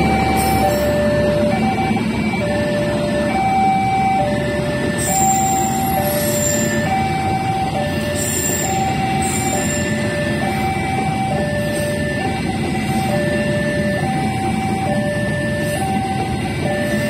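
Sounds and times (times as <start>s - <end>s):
level crossing alarm two tones: 0.0s - 17.0s.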